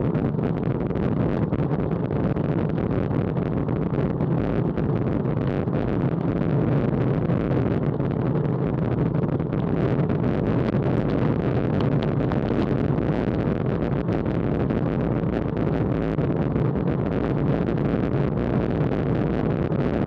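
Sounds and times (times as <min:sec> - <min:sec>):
wind rush on microphone: 0:00.0 - 0:20.0.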